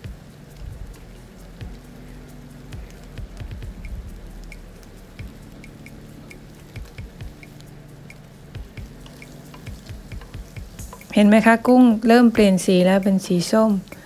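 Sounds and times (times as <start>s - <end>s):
prawns frying in a pan: 0.0s - 14.0s.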